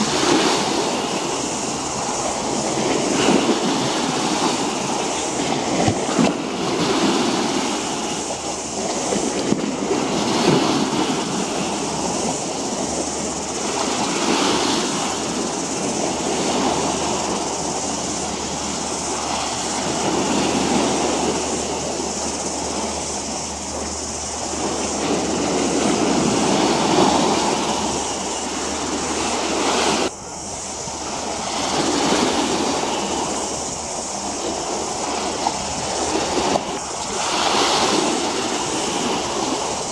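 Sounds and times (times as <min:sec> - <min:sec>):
rushing water noise: 0:00.0 - 0:39.9.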